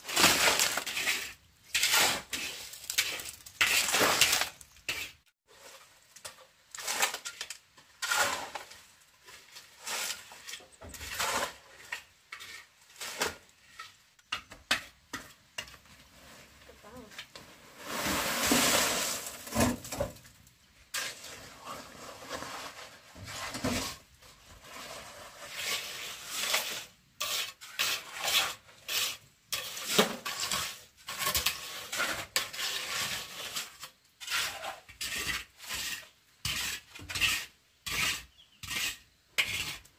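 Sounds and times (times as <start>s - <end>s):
concrete sliding from wheelbarrow: 0.0s - 14.0s, 15.6s - 20.2s, 20.8s - 39.9s
hoe scraping wet concrete: 0.0s - 14.0s, 15.1s - 20.2s, 20.8s - 39.9s.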